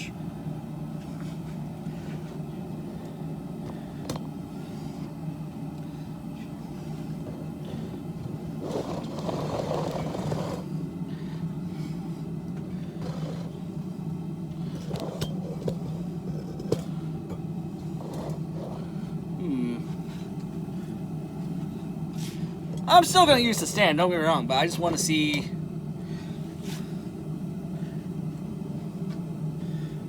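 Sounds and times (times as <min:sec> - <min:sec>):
forge burner rumbling: 0:00.0 - 0:30.0.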